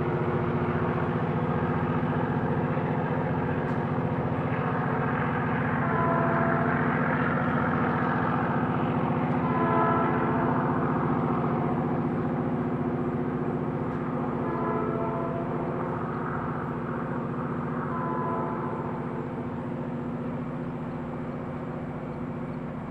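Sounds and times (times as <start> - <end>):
multi-tone train horn blasts: 0.0 - 21.8
diesel locomotive running: 0.0 - 22.9.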